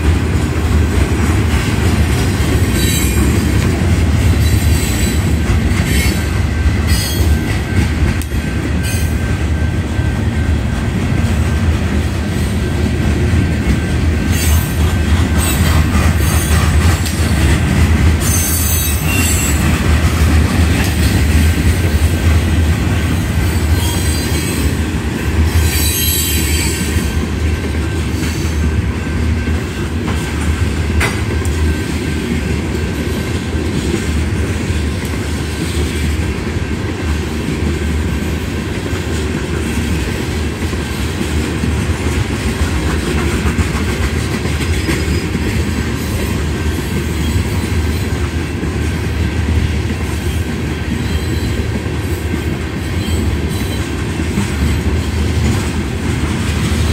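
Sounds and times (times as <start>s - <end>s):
train wheels rumbling on rail: 0.0s - 56.9s.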